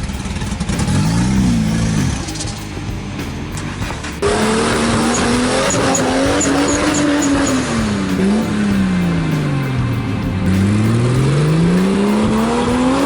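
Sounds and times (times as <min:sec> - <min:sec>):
engine revving under load: 0:00.0 - 0:13.0.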